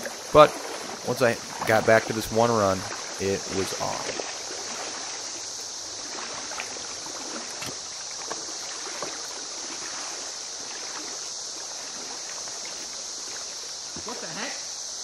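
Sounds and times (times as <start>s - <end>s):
cicada chorus buzzing: 0.0s - 15.0s
faint ticks or small splashes: 0.0s - 15.0s
river water rushing: 0.0s - 15.0s.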